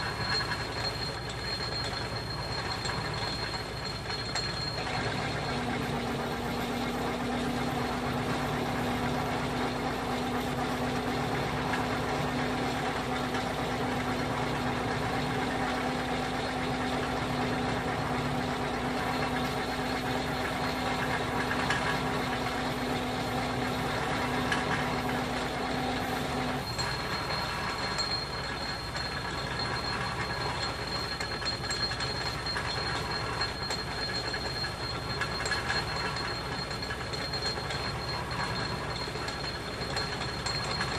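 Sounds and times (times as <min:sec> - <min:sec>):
metal lathe machine hum: 0:00.0 - 0:40.9.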